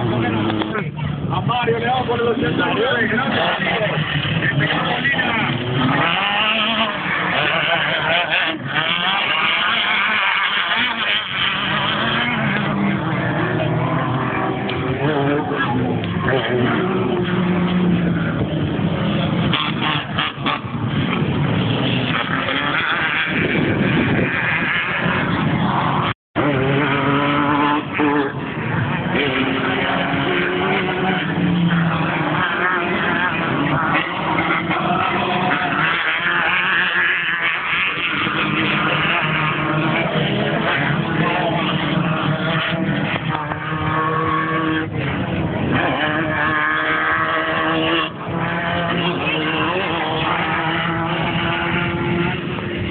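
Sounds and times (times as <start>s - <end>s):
race vehicle engines revving: 0.0s - 52.9s.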